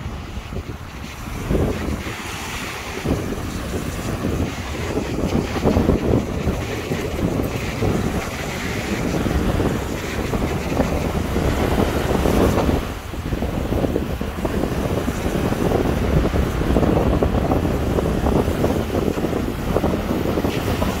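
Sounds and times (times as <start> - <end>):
small waves breaking on shore: 0.0 - 21.0
wind buffeting microphone: 0.0 - 21.0.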